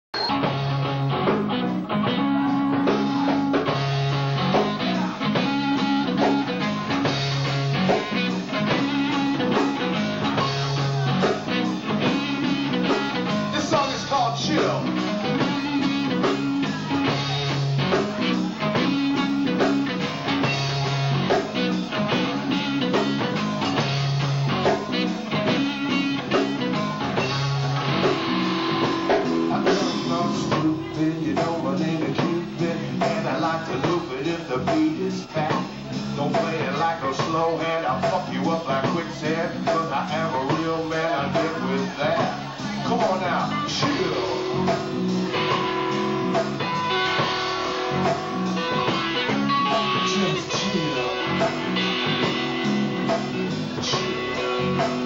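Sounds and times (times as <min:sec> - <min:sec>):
electric bass riff: 0:00.1 - 0:55.0
funk band playing: 0:00.1 - 0:55.0.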